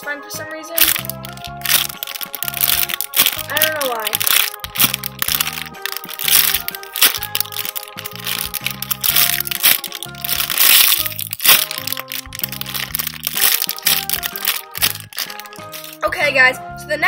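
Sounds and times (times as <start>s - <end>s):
plastic bag crinkling: 0.8s - 16.0s.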